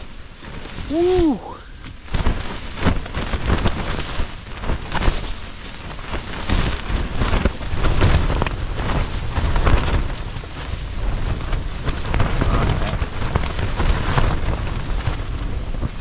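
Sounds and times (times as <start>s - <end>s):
gusting storm wind: 0.0s - 16.0s
rain pelting tent: 0.0s - 16.0s
tent fabric flapping in wind: 0.0s - 16.0s.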